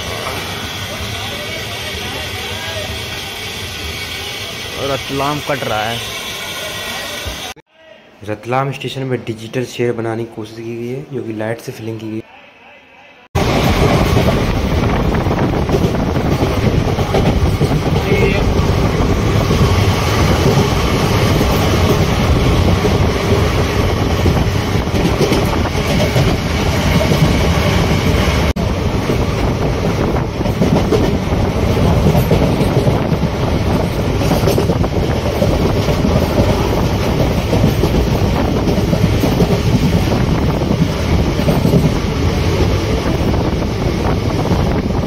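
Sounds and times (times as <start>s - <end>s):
train wheels rumbling on track: 0.0s - 7.6s, 13.4s - 45.0s.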